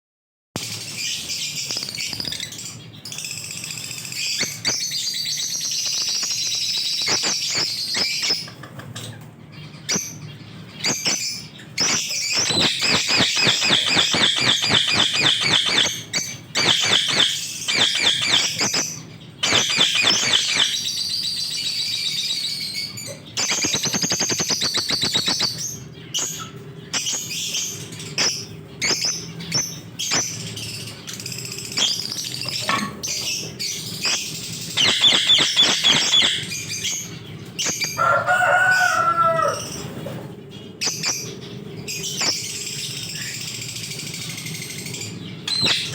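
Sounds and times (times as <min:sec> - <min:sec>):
birds chirping shrilly: 0:00.6 - 0:45.9.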